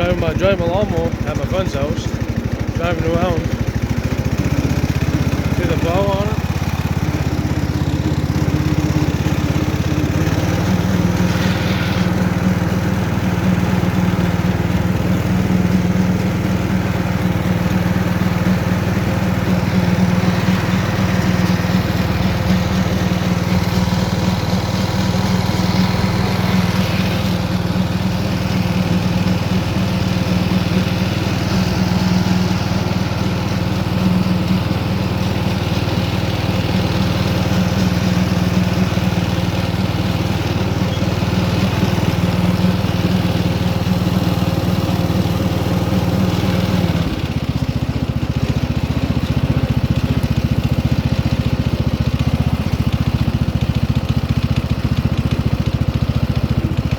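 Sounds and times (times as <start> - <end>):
riding lawn mower engine: 0.0 - 56.9.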